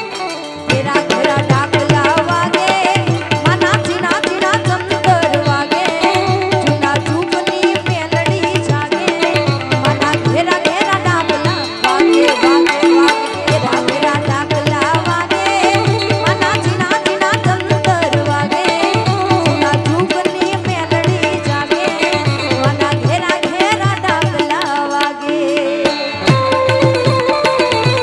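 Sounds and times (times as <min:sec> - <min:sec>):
harmonium melody: 0:00.0 - 0:28.0
hand drums rhythm: 0:00.7 - 0:28.0.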